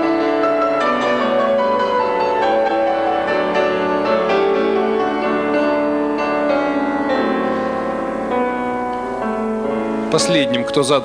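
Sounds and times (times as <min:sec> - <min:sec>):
grand piano: 0:00.0 - 0:11.0.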